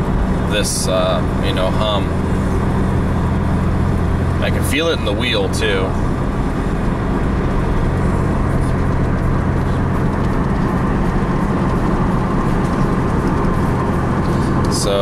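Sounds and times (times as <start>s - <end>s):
low car hum: 0.0s - 15.0s
road and tyre noise: 0.0s - 15.0s.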